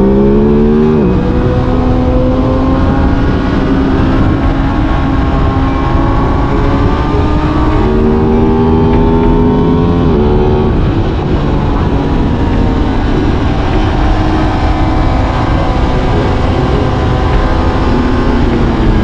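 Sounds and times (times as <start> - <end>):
motorcycle engine at speed: 0.0 - 19.0
wind rumble: 0.0 - 19.0.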